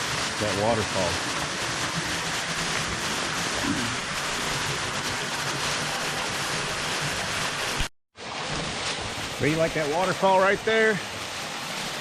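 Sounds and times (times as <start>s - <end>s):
waterfall splashing into creek: 0.0s - 12.0s.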